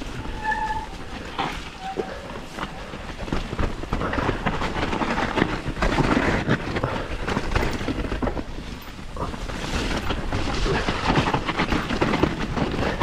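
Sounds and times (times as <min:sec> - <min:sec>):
bike knocking and rattling: 0:00.0 - 0:13.0
bike tyres rumbling over ground: 0:00.0 - 0:13.0.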